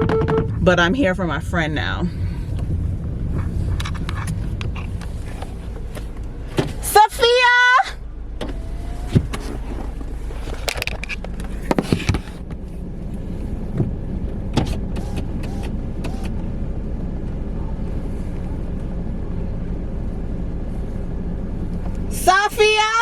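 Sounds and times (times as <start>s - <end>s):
car engine idling: 0.0s - 22.8s.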